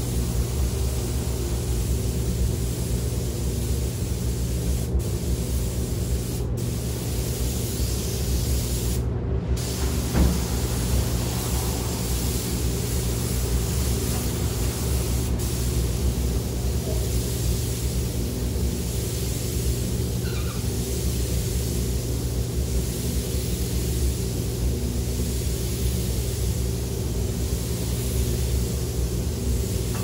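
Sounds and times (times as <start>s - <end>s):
spray gun hissing: 0.0s - 9.0s, 9.6s - 30.0s
steady low hum: 0.0s - 30.0s.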